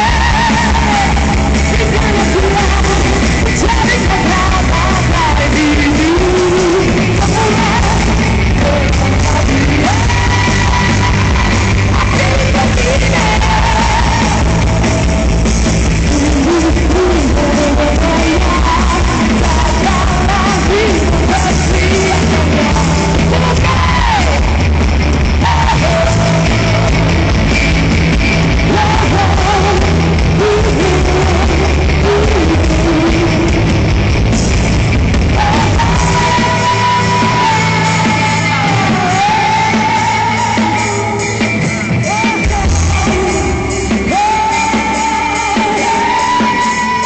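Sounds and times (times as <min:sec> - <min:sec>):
live rock band: 0:00.0 - 0:47.0
singer belting and shouting: 0:00.0 - 0:47.0.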